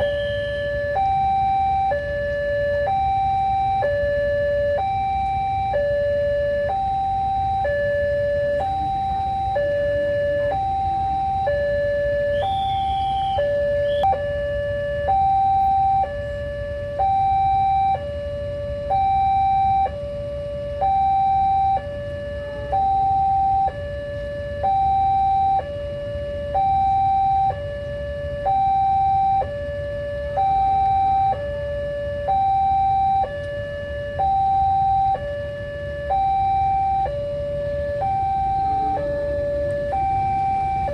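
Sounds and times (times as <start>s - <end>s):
two-tone warning siren: 0.0s - 40.9s.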